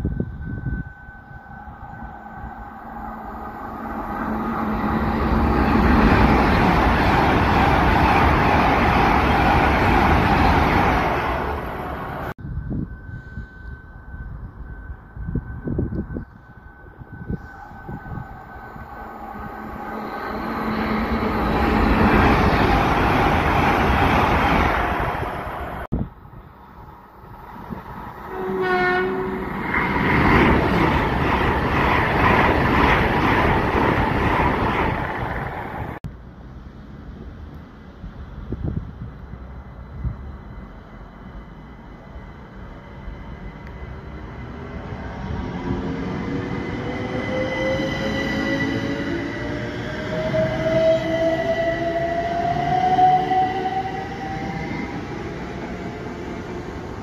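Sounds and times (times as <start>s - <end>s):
passing train rushing: 0.0s - 57.0s.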